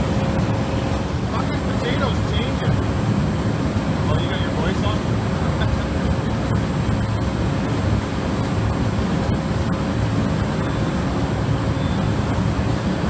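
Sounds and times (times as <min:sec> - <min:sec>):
aerated water churning: 0:00.0 - 0:13.0
machinery humming: 0:00.0 - 0:13.0.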